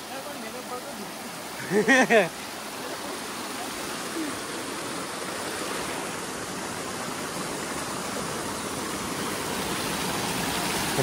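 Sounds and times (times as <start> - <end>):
stream splashing over rocks: 0.0 - 11.0.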